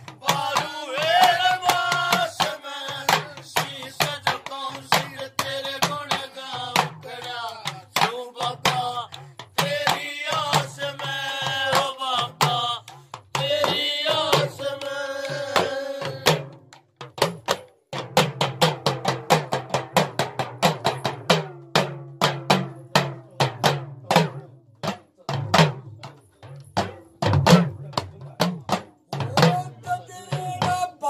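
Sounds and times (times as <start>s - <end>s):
hand drum fast beat: 0.0s - 26.2s, 26.8s - 31.0s.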